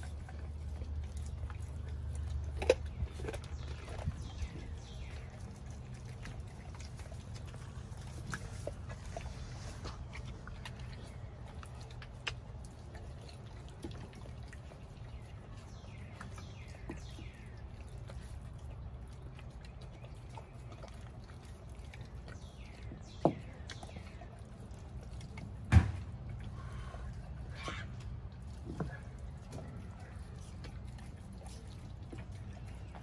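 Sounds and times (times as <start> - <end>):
dog chewing wetly: 0.0 - 33.0.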